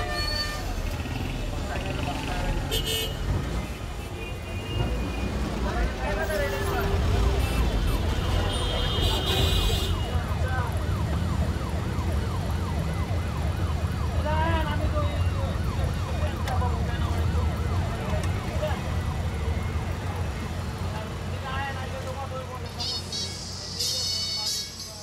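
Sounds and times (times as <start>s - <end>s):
bus engine rumble: 0.0s - 13.7s, 17.8s - 25.0s.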